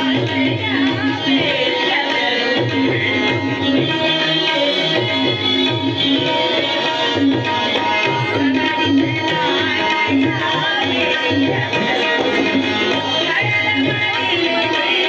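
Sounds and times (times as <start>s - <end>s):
tabla playing: 0.0s - 15.0s.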